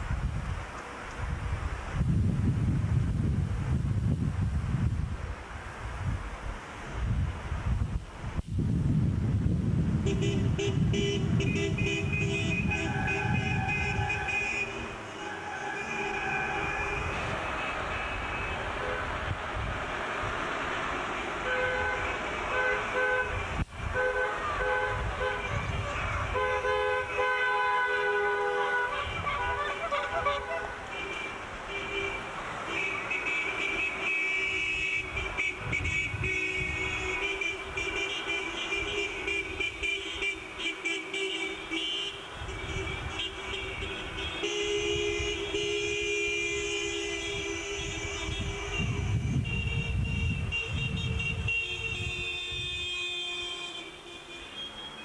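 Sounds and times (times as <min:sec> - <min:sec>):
street traffic rumble: 0:00.0 - 0:55.0
car horns tooting: 0:10.0 - 0:55.0.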